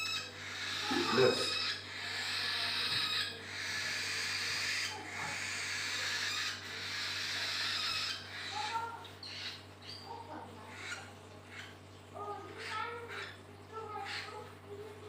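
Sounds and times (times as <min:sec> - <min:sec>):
chick raspy begging calls: 0:00.0 - 0:14.7.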